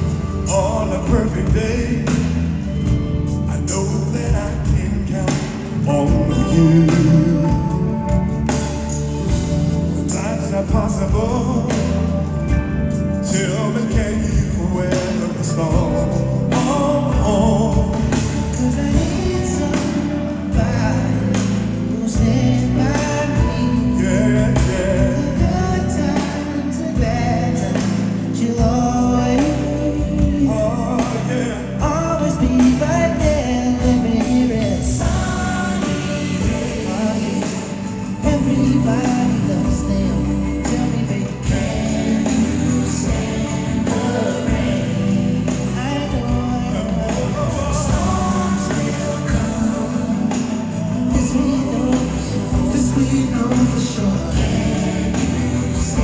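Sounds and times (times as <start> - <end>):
band playing: 0.0 - 56.0
male vocal group singing: 0.0 - 56.0.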